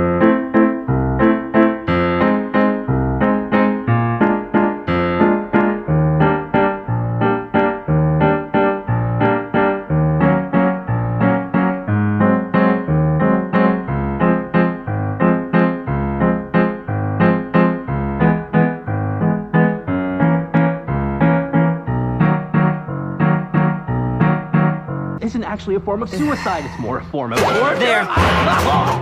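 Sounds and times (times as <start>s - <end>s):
piano music: 0.0s - 26.3s.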